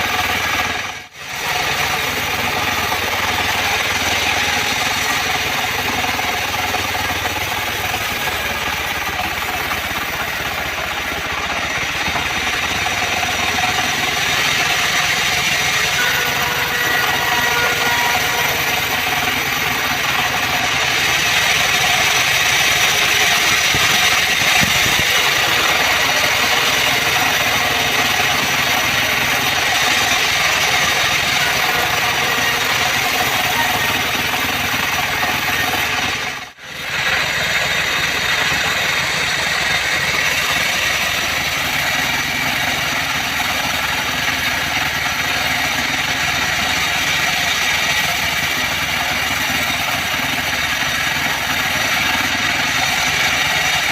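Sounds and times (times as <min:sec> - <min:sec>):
bandsaw sawmill running: 0:00.0 - 0:53.9.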